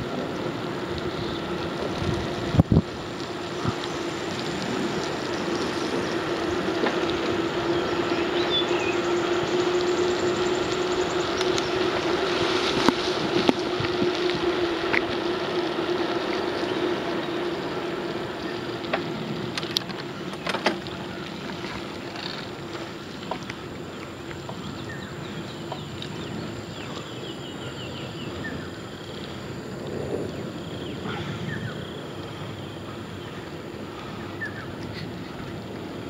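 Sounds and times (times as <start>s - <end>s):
wind on microphone: 0.0s - 22.0s, 23.8s - 36.0s
bicycle tyre rumble: 0.0s - 36.0s.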